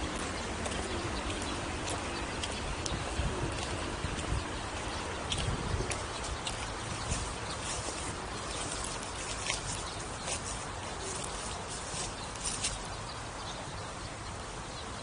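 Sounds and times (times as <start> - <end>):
small birds chirping: 0.0 - 15.0
steady hiss: 0.0 - 15.0.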